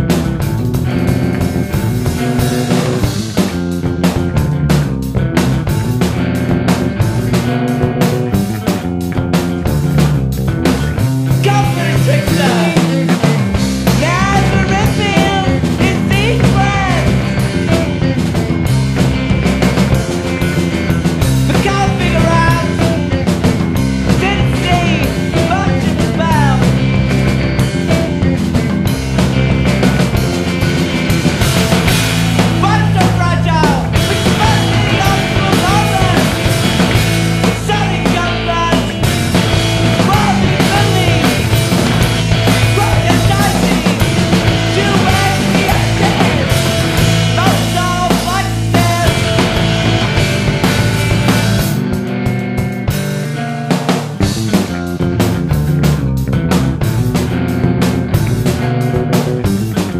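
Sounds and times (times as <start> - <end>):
loud rock band music: 0.0 - 59.9.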